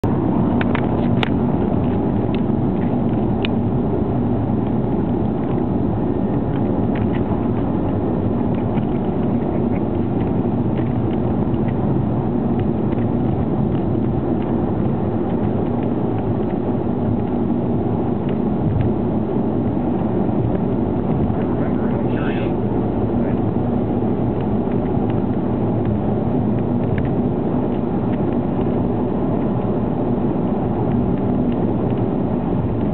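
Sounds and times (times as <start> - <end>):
car engine and tyre rumble: 0.0 - 32.9.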